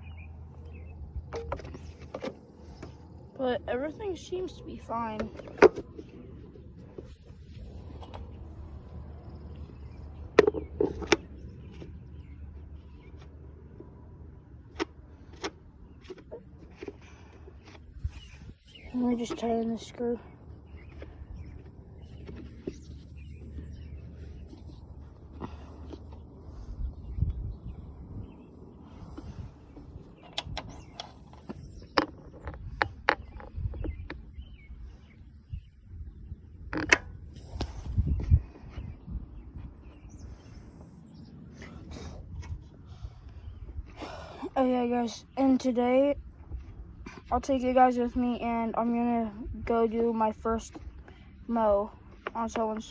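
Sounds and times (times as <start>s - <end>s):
low steady rumble: 0.0s - 52.9s.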